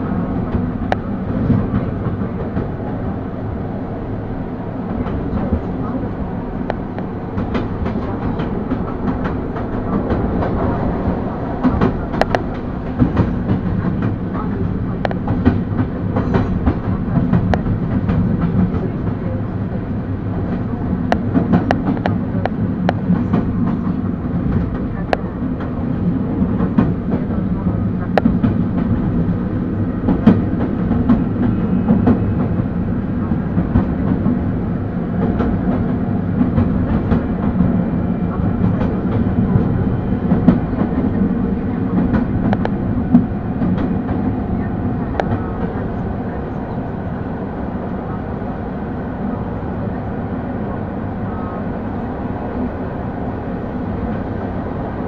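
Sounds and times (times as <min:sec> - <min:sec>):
rail joint clicks: 0:00.0 - 0:55.0
train wheels rumbling: 0:00.0 - 0:55.0.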